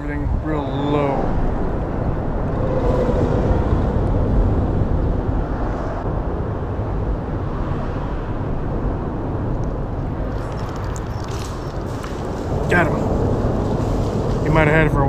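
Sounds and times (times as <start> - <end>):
traffic rumbling over a bridge: 0.0 - 15.0.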